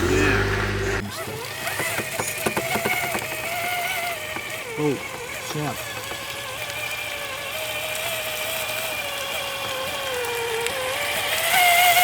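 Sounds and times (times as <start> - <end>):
rc vehicle motor whining: 0.0 - 12.0.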